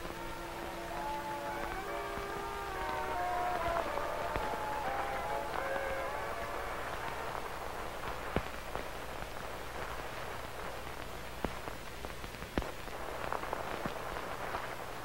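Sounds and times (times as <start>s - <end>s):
crackles and pops: 0.0s - 15.0s
film hiss and hum: 0.0s - 15.0s.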